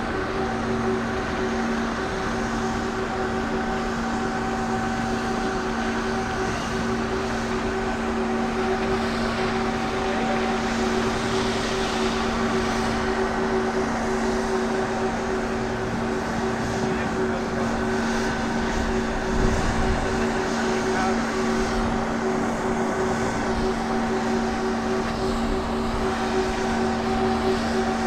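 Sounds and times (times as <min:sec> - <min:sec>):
continuous rushing noise: 0:00.0 - 0:28.0
steady mechanical hum: 0:00.0 - 0:28.0.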